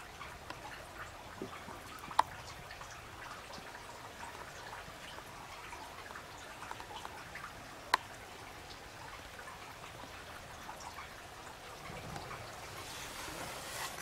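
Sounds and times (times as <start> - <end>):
water dripping on pavement: 0.0 - 12.6.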